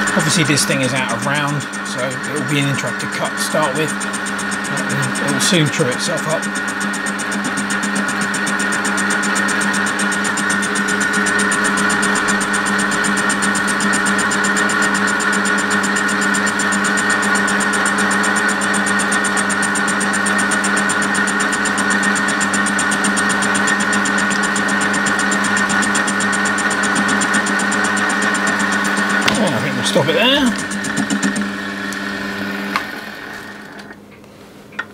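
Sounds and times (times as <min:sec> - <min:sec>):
metal lathe humming and whining: 0:00.0 - 0:34.0.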